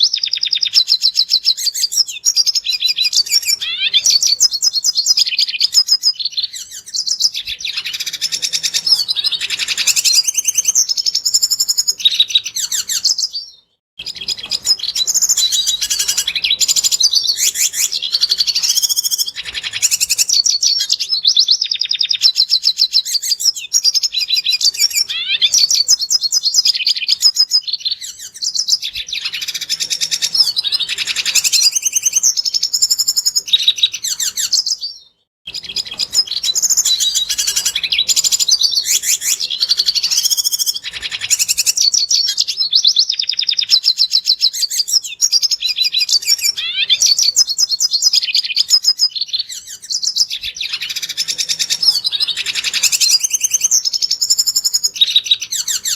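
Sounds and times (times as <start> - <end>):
bird twittering song: 0.0 - 55.9.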